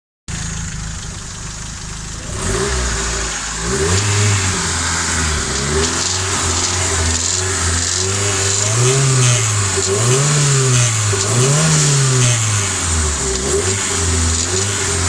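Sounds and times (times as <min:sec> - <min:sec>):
car engine idling and revving: 0:00.3 - 0:15.0.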